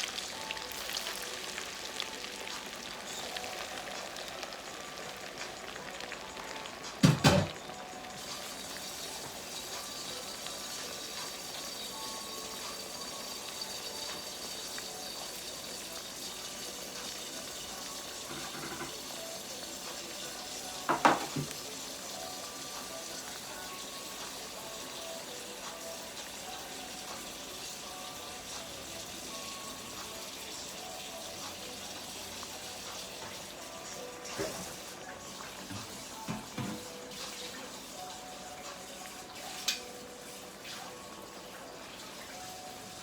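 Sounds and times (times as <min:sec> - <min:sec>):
food sizzling in hot oil: 0:00.0 - 0:43.0.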